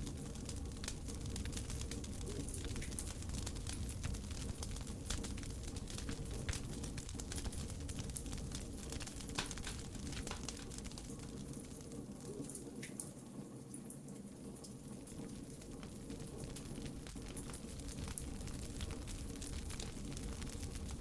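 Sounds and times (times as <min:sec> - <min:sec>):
fire pops and snaps: 0:00.0 - 0:12.0, 0:15.1 - 0:21.0
campfire crackling: 0:00.0 - 0:12.9, 0:14.8 - 0:21.0
low rumble of burning wood: 0:00.0 - 0:21.0.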